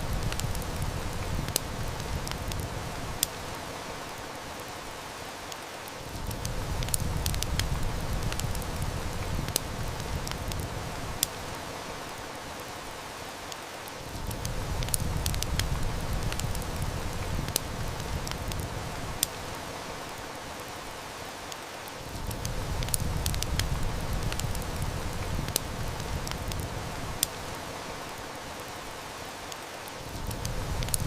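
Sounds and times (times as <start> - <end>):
heavy rain: 0.0 - 31.0
wood fire crackling: 0.0 - 31.0.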